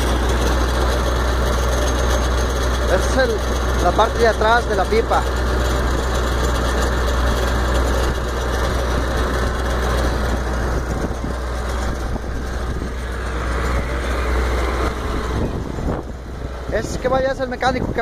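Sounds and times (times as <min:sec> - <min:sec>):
water pump engine droning: 0:00.0 - 0:18.0.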